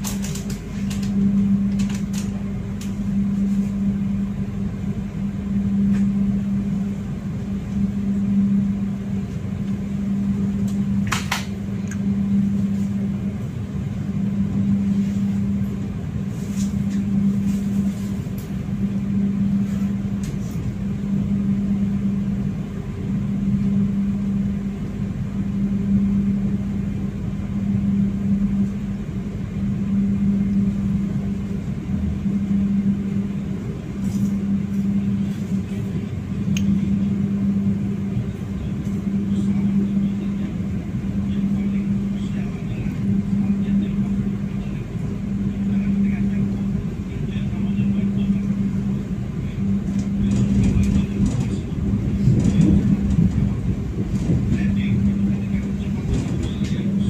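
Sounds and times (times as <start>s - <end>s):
train cabin hum: 0.0s - 57.0s.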